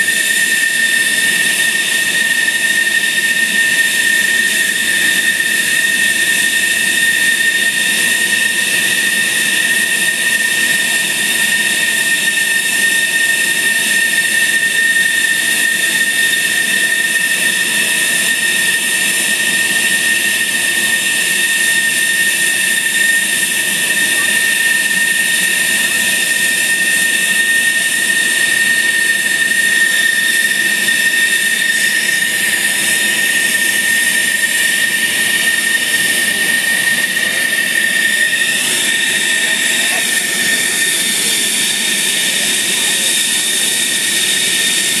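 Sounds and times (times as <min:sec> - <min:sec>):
jet engine idling: 0:00.0 - 0:45.0.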